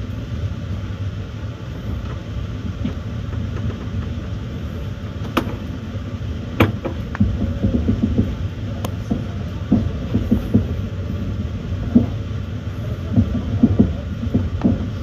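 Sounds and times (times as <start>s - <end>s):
train wheels rumbling on rails: 0.0s - 15.0s
sharp knocks of train wheels: 1.9s - 15.0s.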